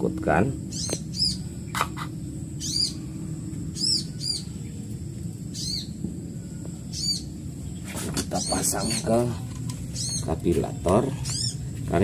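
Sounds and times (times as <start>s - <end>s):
low background rumble: 0.0s - 12.0s
bird chirping: 0.5s - 6.0s, 6.7s - 11.8s.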